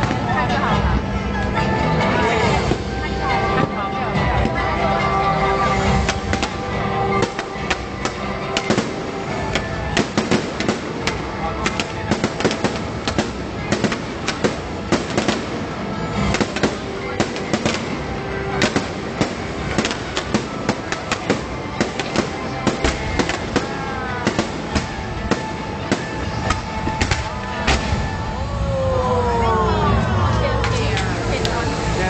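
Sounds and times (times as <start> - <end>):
fireworks bangs and crackles: 0.0 - 29.0, 29.9 - 32.0.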